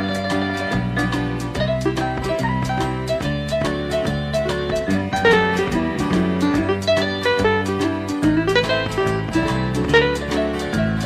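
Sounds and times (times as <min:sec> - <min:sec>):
plucked guitar-like notes: 0:00.0 - 0:11.0
steady beat: 0:00.0 - 0:11.0
upbeat background music: 0:00.0 - 0:11.0.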